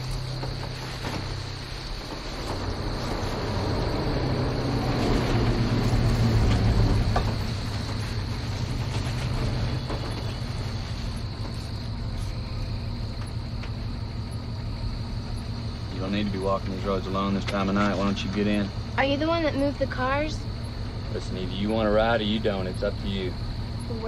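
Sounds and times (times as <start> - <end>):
crickets chirring: 0.0 - 24.0
truck engine idling: 0.0 - 24.0.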